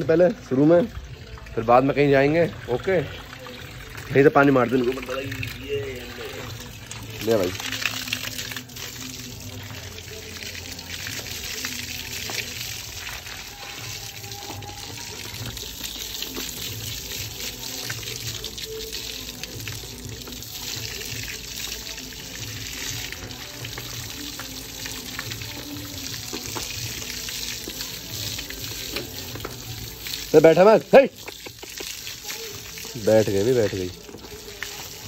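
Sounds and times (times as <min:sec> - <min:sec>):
water pouring and splashing: 0:00.0 - 0:35.0.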